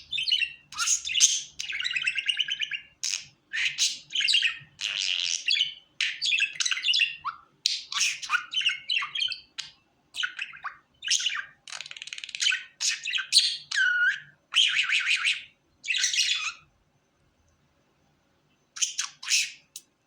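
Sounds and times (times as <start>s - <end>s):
budgerigar chirping and squawking: 0.0s - 16.7s, 18.8s - 19.9s.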